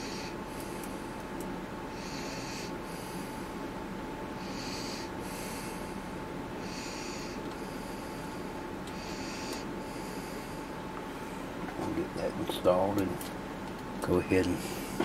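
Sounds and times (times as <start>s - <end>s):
steady whine: 0.0s - 15.0s.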